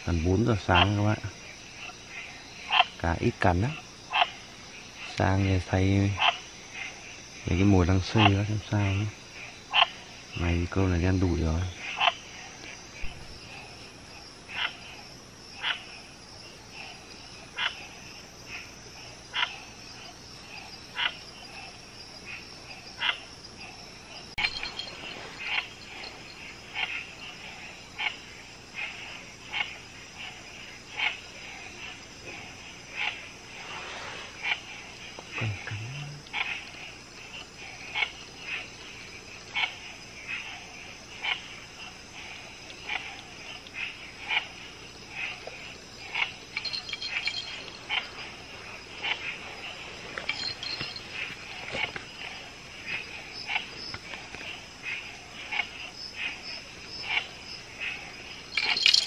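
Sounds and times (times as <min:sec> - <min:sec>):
frogs calling: 0:00.0 - 0:59.0
high insect trill: 0:00.0 - 0:59.0.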